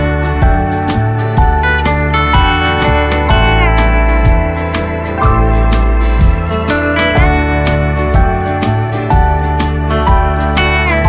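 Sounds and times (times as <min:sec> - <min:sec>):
guitar-led instrumental music: 0:00.0 - 0:11.0.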